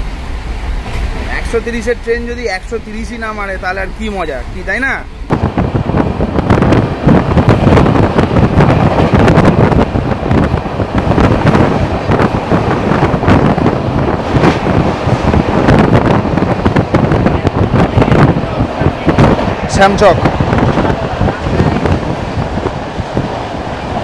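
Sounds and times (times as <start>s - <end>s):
train rumble: 0.0s - 24.0s
wind rushing on microphone: 0.0s - 24.0s.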